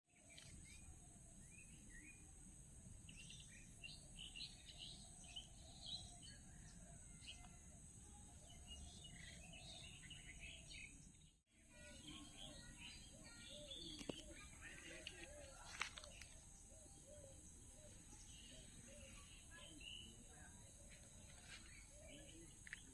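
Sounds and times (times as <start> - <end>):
small birds chirping: 0.1 - 22.9.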